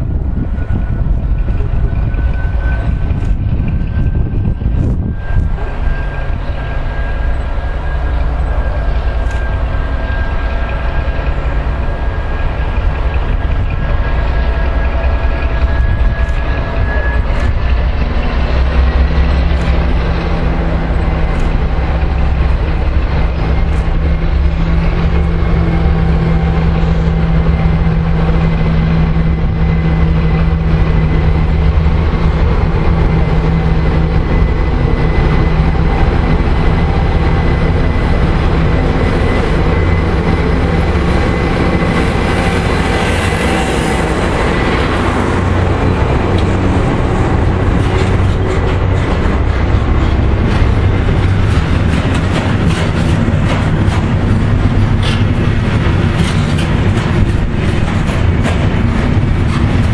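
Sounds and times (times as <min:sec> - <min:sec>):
diesel locomotive engine humming: 0:00.0 - 0:59.9.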